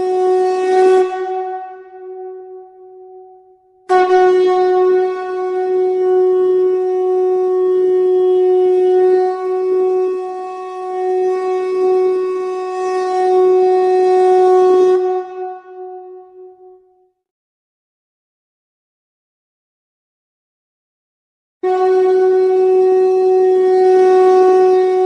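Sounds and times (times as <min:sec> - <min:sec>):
conch shell blown: 0:00.0 - 0:17.1, 0:21.6 - 0:25.0.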